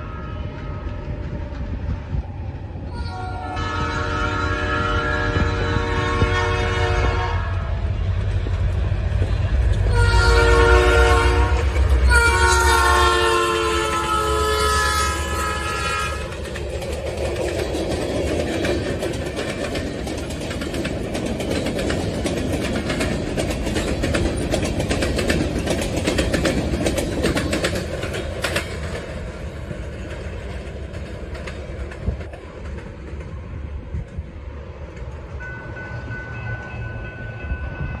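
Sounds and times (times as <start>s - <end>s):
freight train wheels clattering: 3.6s - 38.0s.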